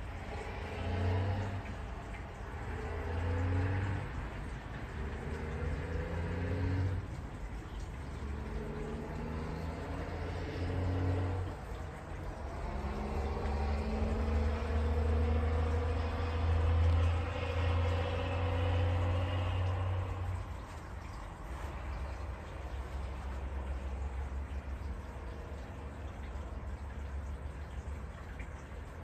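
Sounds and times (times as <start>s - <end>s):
distant engine hum: 0.0s - 29.0s.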